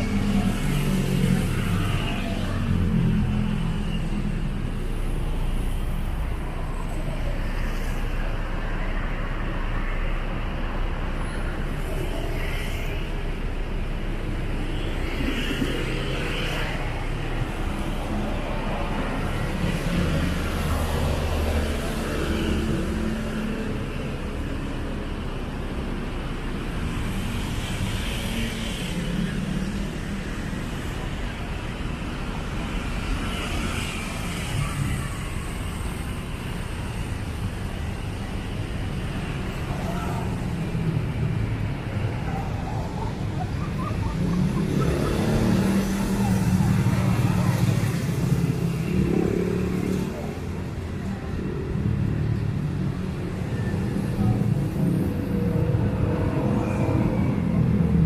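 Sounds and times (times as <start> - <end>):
cars passing: 0.0 - 58.0
hum of tyres and engines: 0.0 - 58.0.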